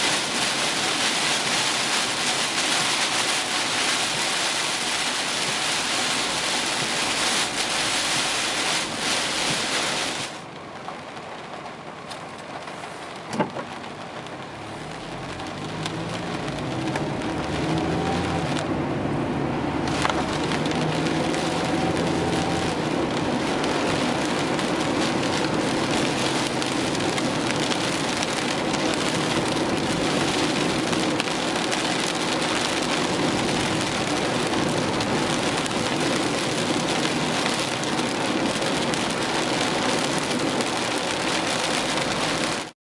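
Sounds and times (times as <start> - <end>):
wind: 0.0 - 42.7
heavy rain: 0.0 - 42.8.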